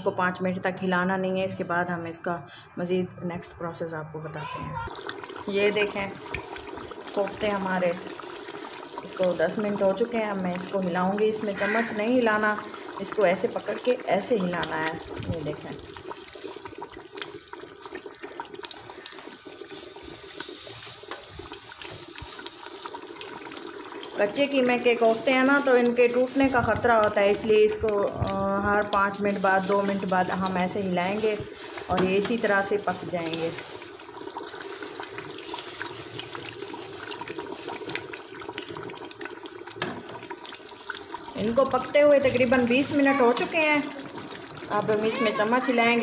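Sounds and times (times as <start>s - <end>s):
curry gravy bubbling: 4.8s - 46.0s
gravy sloshing in a pot: 4.9s - 46.0s.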